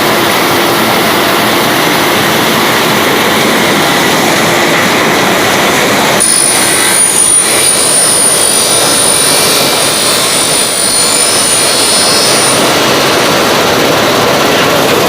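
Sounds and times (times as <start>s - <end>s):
machine mechanical rush: 0.0s - 15.0s
thin high whine: 0.0s - 15.0s.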